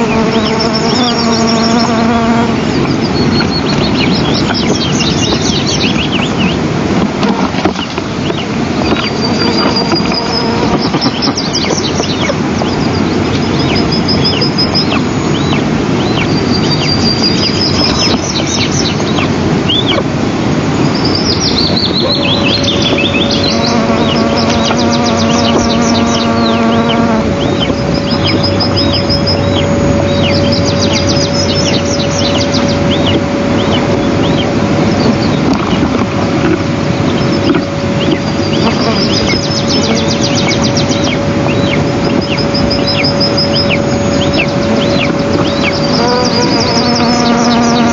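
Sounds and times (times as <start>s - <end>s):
buzzy note: 0.0s - 7.6s, 8.2s - 47.9s
songbirds chirping and trilling: 0.0s - 47.9s
steady droning tone: 0.0s - 47.9s
wind on microphone: 0.0s - 47.9s.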